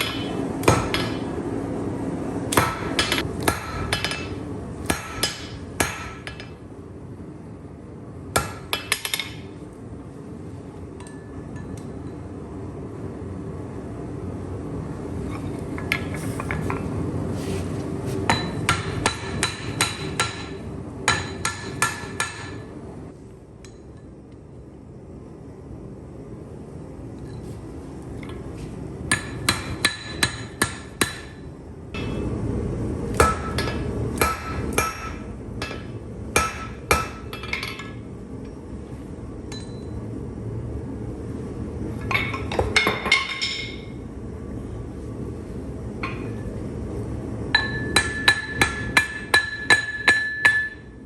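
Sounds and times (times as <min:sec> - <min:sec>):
steady low rumble: 0:00.0 - 0:49.5.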